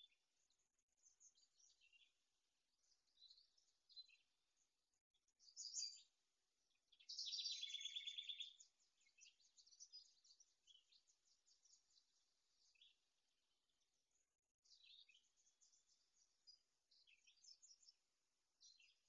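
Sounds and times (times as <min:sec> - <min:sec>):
faint small birds singing: 0:00.0 - 0:19.0.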